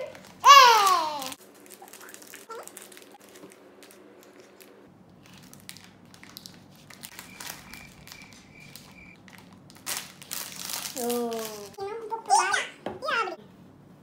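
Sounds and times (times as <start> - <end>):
plastic wrapper crinkling: 0.0 - 11.8.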